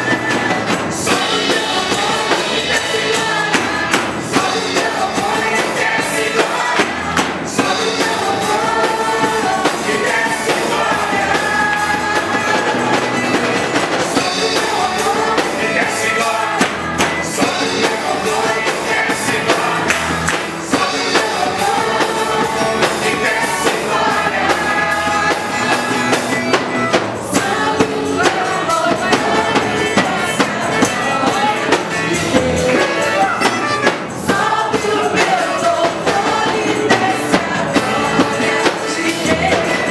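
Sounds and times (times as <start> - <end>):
full band playing: 0.0 - 39.9
steady drum beat: 0.0 - 39.9
voices singing praise song: 0.0 - 39.9.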